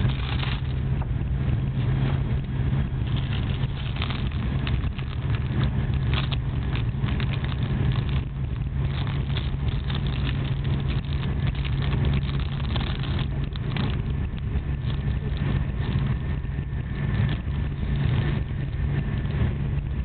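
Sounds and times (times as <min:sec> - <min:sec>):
light clicks and rattles: 0:00.0 - 0:19.5
train low rumble inside car: 0:00.0 - 0:20.0.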